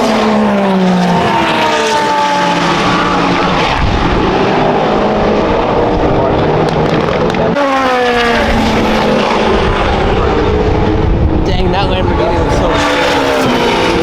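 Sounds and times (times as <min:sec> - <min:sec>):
race car engines running hard: 0:00.0 - 0:14.0
race car passing by: 0:00.0 - 0:14.0.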